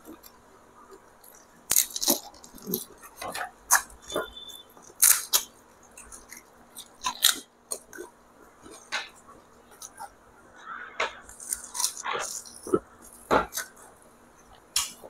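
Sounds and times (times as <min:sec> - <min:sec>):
crisp shells crunching: 0:00.0 - 0:15.0.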